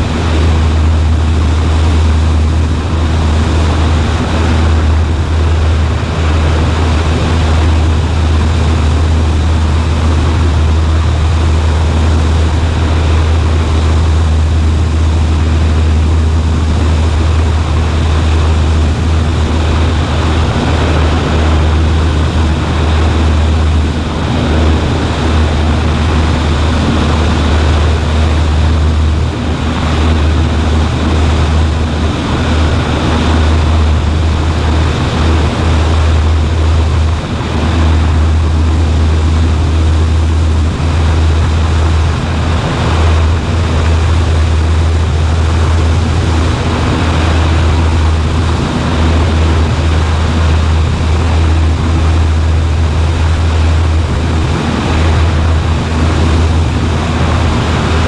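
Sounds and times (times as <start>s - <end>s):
small plane engine droning: 0.0s - 58.0s.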